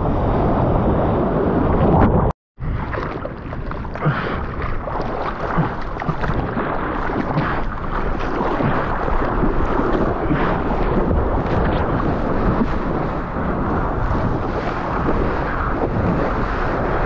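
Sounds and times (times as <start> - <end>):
water rushing around surfboard: 0.1 - 17.0
paddling splashes: 1.8 - 17.0.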